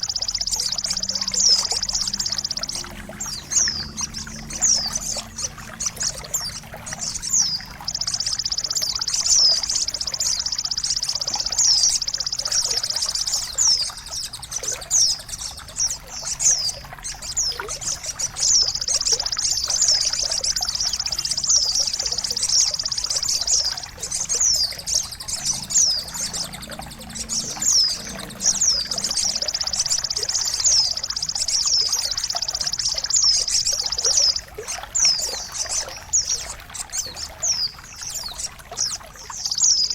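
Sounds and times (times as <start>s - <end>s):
high bird trill: 0.0s - 39.9s
songbird chirps: 0.0s - 39.9s
trickling water: 0.0s - 39.9s.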